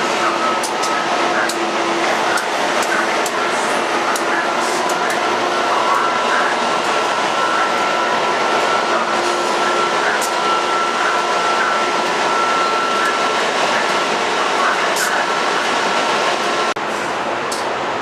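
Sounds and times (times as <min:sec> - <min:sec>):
train rushing noise: 0:00.0 - 0:18.0.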